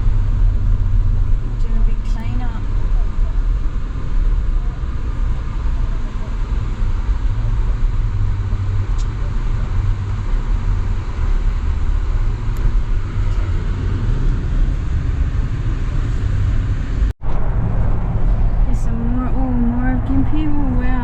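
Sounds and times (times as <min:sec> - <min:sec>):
car interior road rumble: 0:00.0 - 0:21.0.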